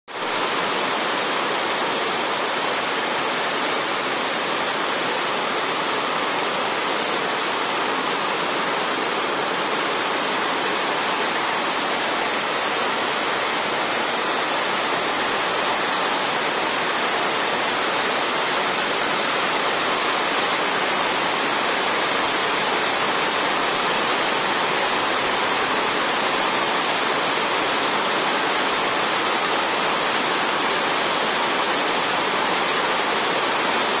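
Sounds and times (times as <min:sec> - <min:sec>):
rain on a sheet metal roof: 0:00.1 - 0:34.0.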